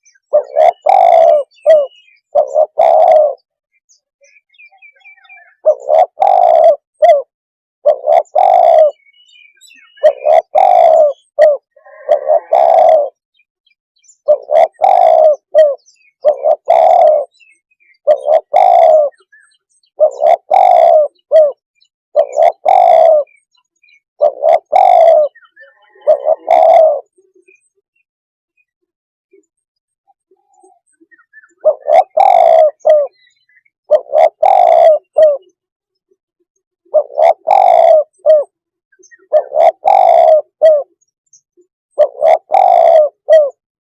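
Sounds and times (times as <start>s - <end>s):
dove cooing: 0.0s - 3.5s, 4.3s - 13.2s, 14.2s - 21.6s, 22.2s - 23.4s, 24.2s - 27.7s, 30.3s - 35.6s, 36.9s - 41.0s, 41.9s - 43.6s.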